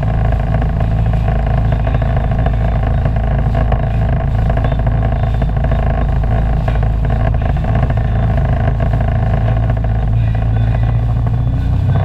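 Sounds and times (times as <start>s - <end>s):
personal watercraft engine drone: 0.0s - 12.0s.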